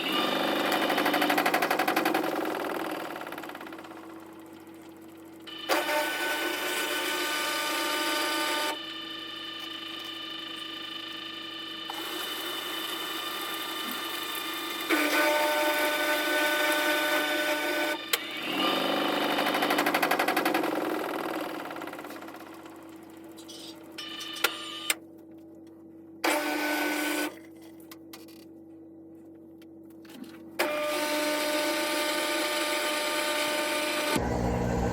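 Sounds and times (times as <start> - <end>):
washing machine drum motor whirring: 0.0 - 25.0, 30.6 - 34.9.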